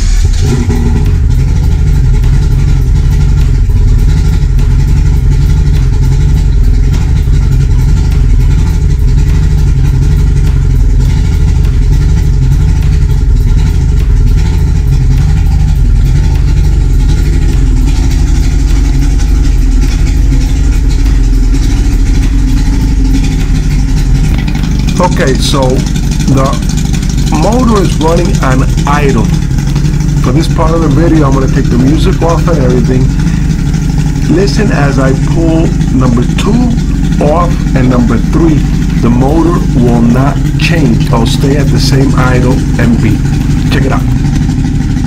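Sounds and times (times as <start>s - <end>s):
outboard motor idling: 0.0s - 45.0s.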